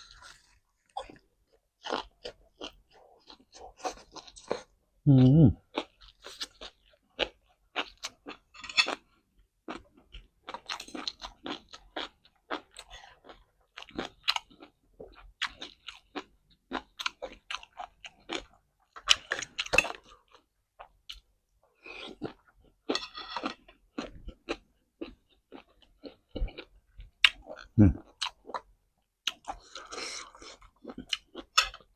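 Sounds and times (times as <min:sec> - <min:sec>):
person chewing crisp food: 0:00.0 - 0:04.7, 0:05.3 - 0:31.9.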